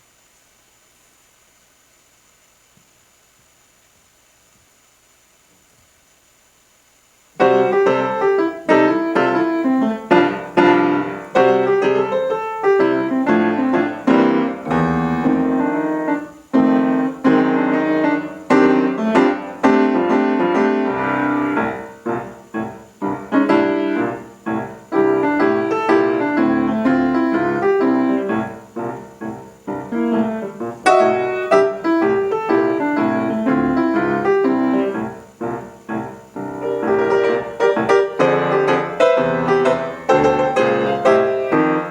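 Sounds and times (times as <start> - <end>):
solo piano playing fast piece: 7.4 - 41.9.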